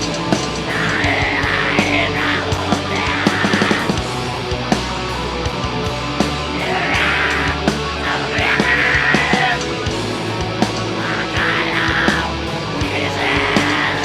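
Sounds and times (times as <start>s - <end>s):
heavy metal band playing live: 0.0s - 14.0s.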